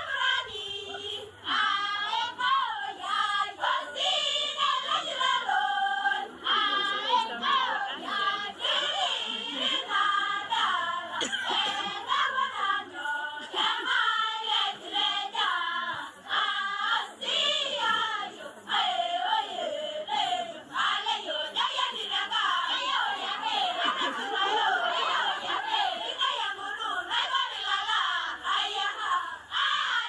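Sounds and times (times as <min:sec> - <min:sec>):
female choir singing: 0:00.0 - 0:30.0.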